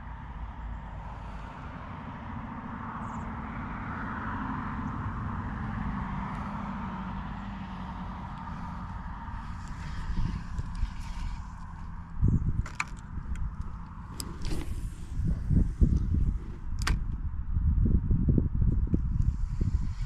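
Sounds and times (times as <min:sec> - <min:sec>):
vehicle passing by: 0:00.5 - 0:16.7.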